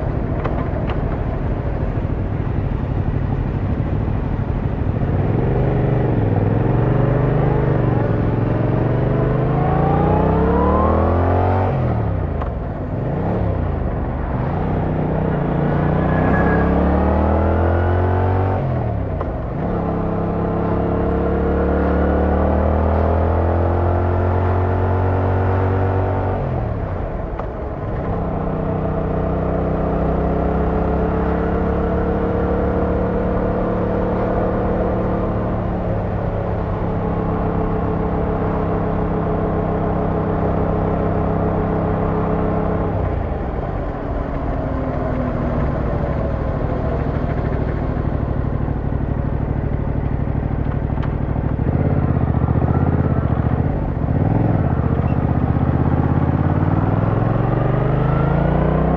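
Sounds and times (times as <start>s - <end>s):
motorcycle engine revving through gears: 4.6s - 58.9s.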